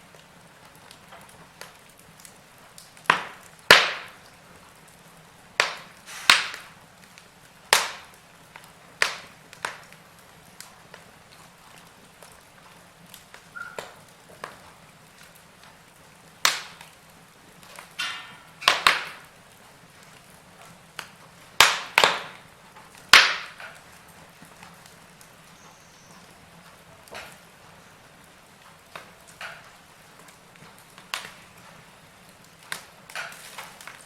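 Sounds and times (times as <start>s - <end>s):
faint steady hiss: 0.0s - 34.0s
logs crackling in fireplace: 0.0s - 34.0s.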